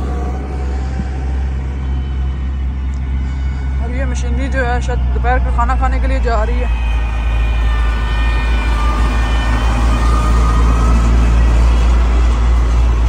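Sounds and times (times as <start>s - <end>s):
diesel engine rumbling: 0.0s - 13.0s
faint whine: 0.0s - 13.0s.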